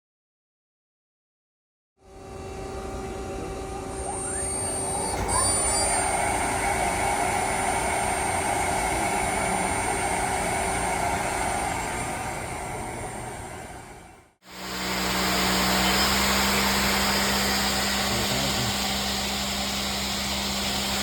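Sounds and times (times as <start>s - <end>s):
lathe machine humming and whining: 2.0s - 21.0s.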